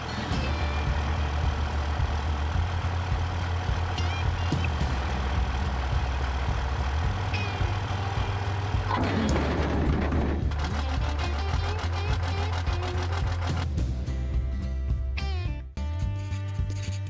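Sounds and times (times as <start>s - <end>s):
diesel truck engine rumbling: 0.0s - 15.1s.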